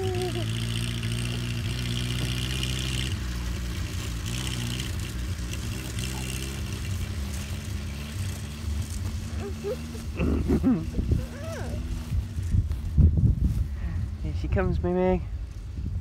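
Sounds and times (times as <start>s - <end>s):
small car engine revving: 0.0s - 13.0s.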